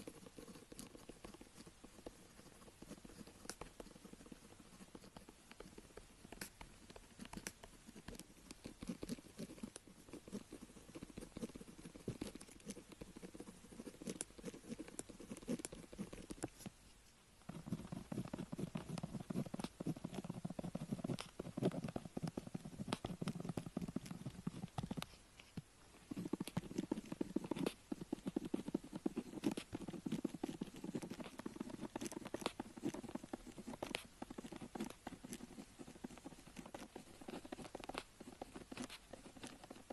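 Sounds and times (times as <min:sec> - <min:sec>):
pen scratching on paper: 0:00.0 - 0:16.8, 0:17.4 - 0:25.2, 0:26.1 - 0:39.9.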